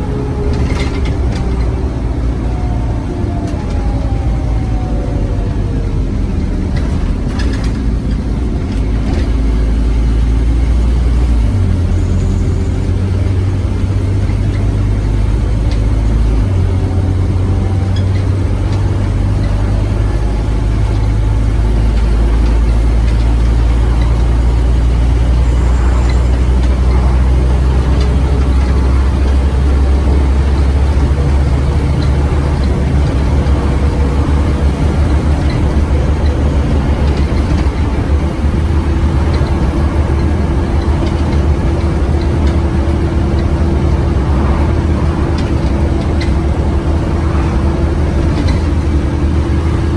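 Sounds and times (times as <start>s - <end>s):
bus engine droning: 0.0s - 49.9s.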